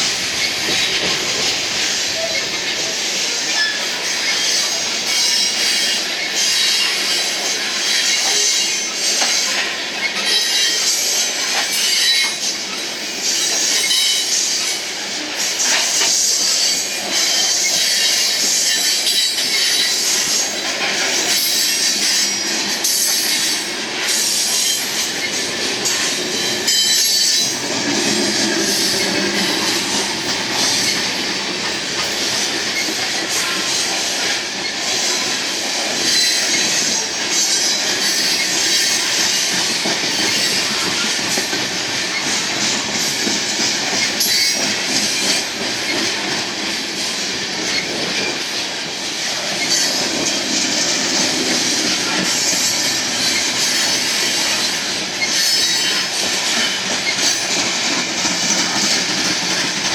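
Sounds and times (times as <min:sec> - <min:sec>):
train wheels squealing and clacking: 0:00.0 - 0:59.9.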